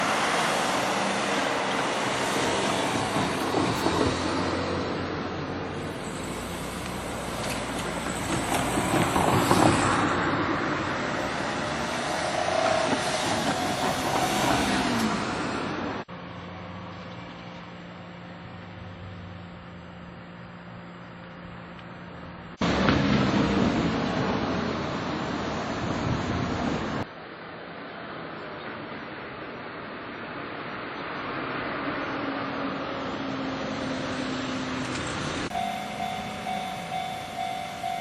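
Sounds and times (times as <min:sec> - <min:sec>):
electric train rumbling: 0:00.0 - 0:27.1, 0:33.6 - 0:38.0.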